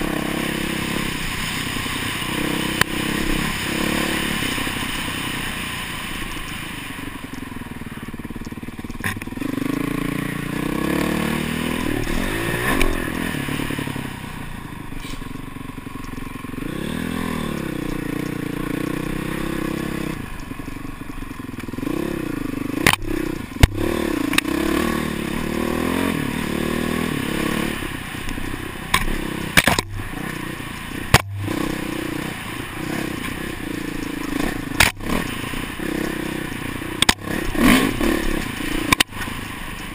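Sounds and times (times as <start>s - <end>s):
dirt bike engine revving: 0.0s - 6.3s, 8.2s - 15.5s, 16.1s - 39.9s.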